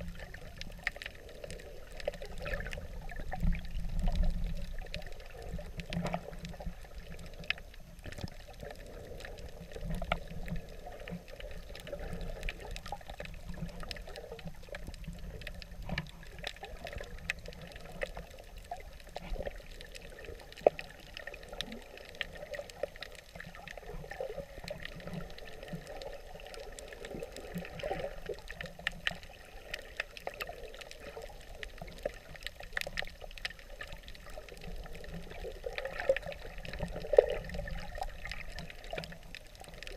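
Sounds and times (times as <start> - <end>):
muffled underwater gurgling: 0.0 - 39.9
small clicks and crackles: 0.0 - 39.9.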